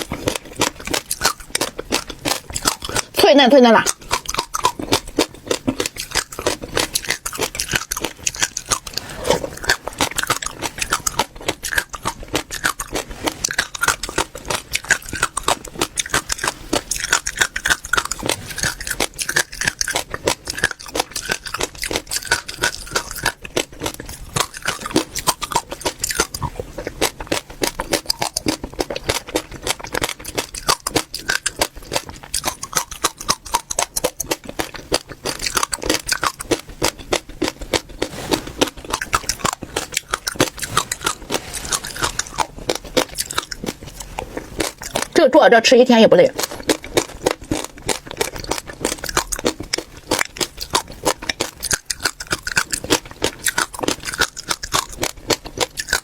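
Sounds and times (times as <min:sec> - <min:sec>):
chewing crunchy seeds: 0:00.0 - 0:56.0.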